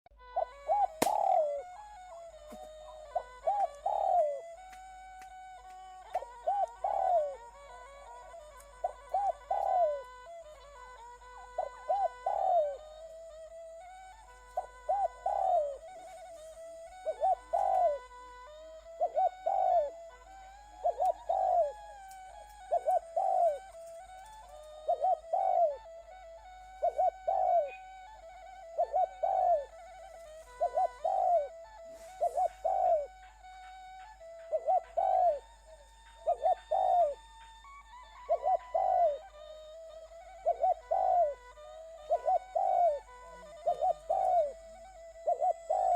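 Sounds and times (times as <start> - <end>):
dove-like cooing calls: 0.1 - 45.9
steady held music tones: 0.1 - 45.9.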